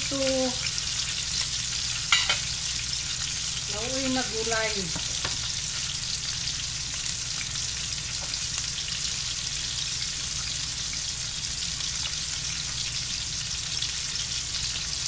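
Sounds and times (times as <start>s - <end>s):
fish sizzling in frying pan: 0.0s - 15.0s.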